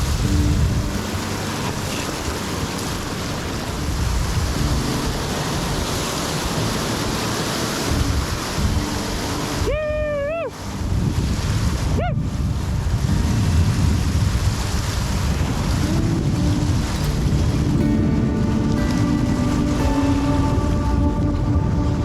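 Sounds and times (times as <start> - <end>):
fast-flowing river rushing: 0.0 - 22.0
wind buffeting microphone: 0.0 - 22.0.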